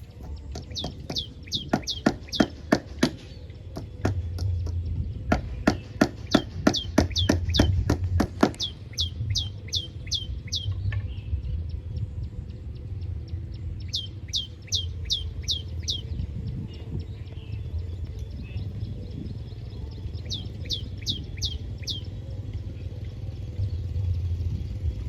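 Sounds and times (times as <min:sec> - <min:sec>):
birds calling sharply: 0:00.0 - 0:11.8, 0:13.7 - 0:22.2
low rumble: 0:03.3 - 0:25.0.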